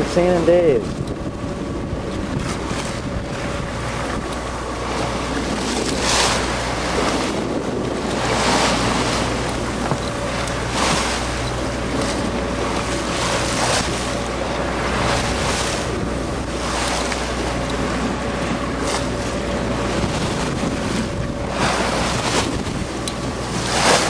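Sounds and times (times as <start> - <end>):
steady low hum: 0.0 - 24.0
water rushing along hull: 0.0 - 24.0
wind buffeting microphone: 0.0 - 24.0.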